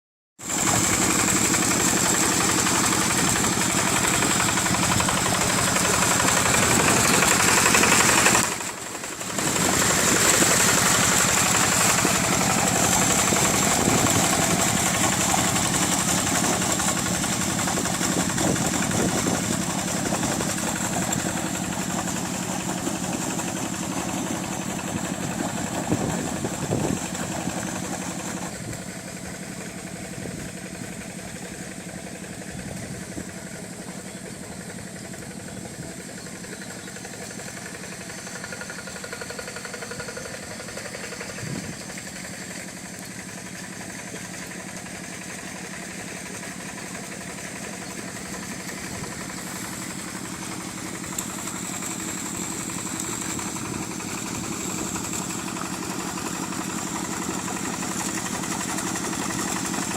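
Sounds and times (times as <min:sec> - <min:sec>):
hand tractor engine running: 0:00.4 - 0:59.9.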